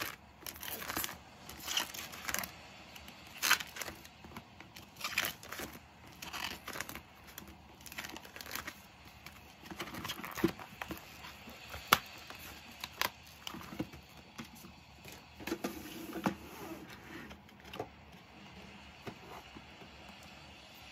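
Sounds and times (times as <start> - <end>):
plastic sleeves rustling and crinkling: 0.0 - 19.7.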